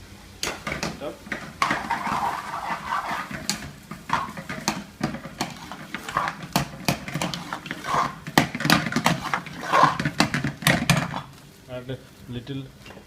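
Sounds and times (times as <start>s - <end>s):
metal spoon scraping a pan: 0.6s - 11.3s.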